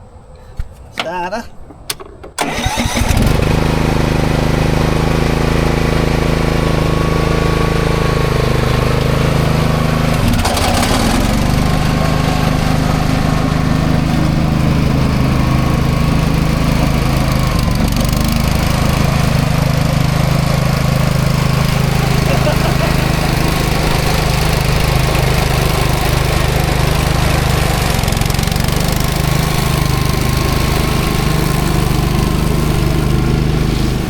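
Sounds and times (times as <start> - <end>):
ride-on mower engine running: 1.0 - 34.0.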